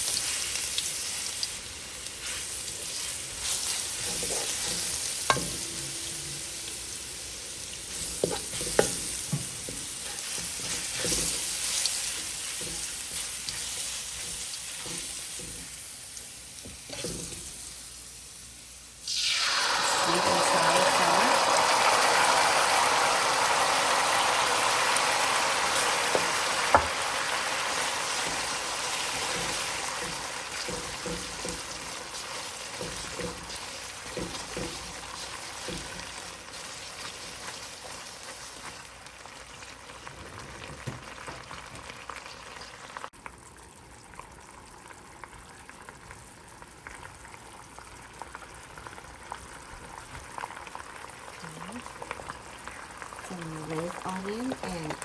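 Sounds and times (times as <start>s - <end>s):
oil and garlic sizzling: 0.0s - 55.0s.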